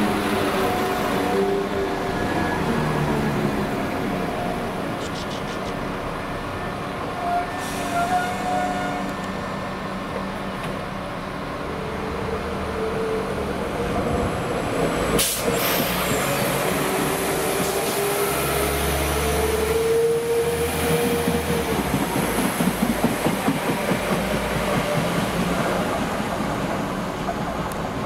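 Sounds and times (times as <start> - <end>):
diesel train rumbling: 0.0 - 28.0
train whine: 0.0 - 28.0.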